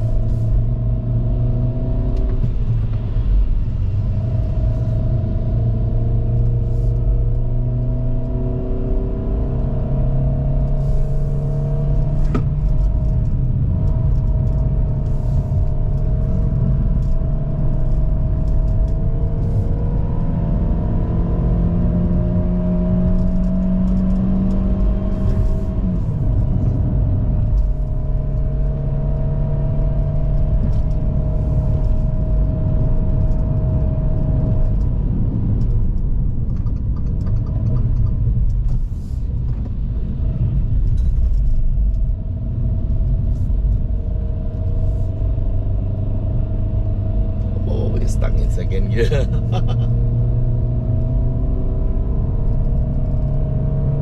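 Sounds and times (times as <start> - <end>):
car engine pulling uphill: 0.0 - 54.0.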